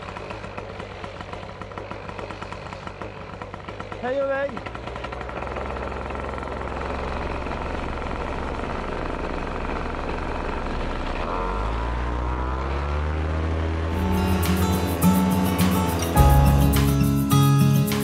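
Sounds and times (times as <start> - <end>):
paramotor engine revving: 0.0 - 18.0.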